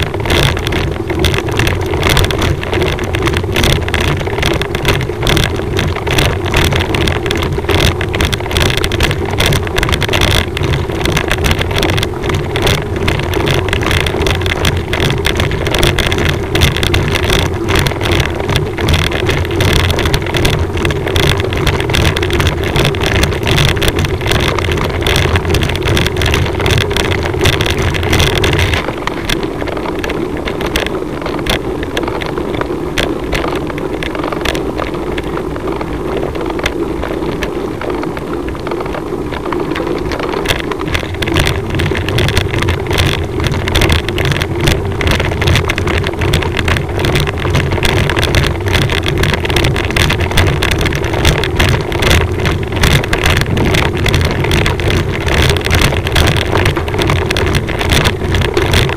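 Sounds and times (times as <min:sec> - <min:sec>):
steady low rumble: 0:00.0 - 0:58.9
wind buffeting microphone: 0:00.0 - 0:58.9.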